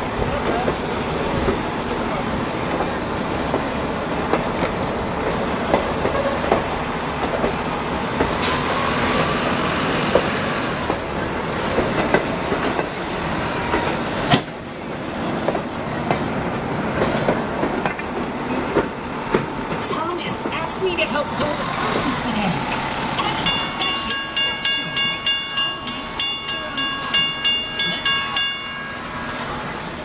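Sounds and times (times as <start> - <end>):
train wheels clickety-clack: 0.0 - 30.0.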